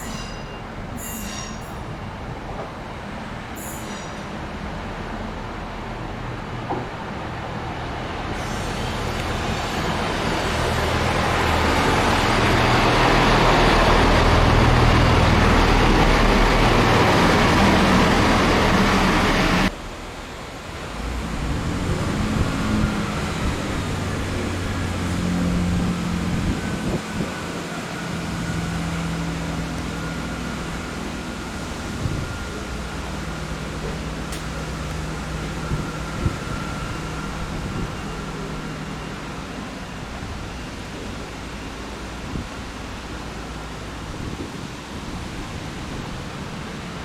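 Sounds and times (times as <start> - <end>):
train passing close by: 0.0 - 47.0
steady engine drone: 9.0 - 47.0.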